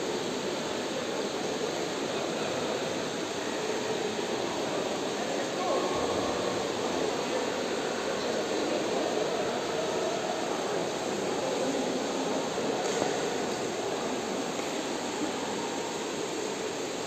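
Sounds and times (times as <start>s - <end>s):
swimmers splashing in echoing pool: 0.0s - 17.0s.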